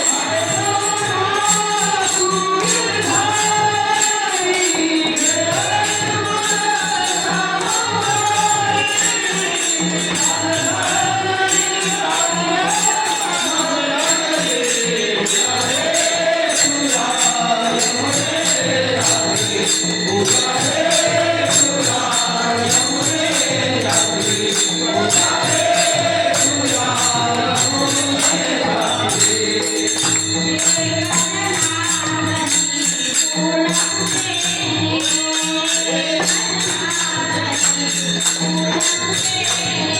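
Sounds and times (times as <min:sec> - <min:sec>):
music with jingling percussion: 0:00.0 - 0:39.9
woman singing devotional song: 0:00.0 - 0:39.9.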